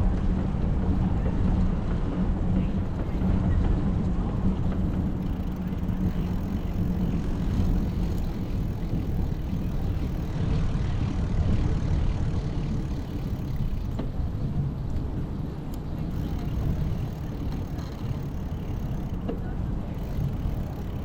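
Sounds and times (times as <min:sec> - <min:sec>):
traffic and road noise: 0:00.0 - 0:21.0.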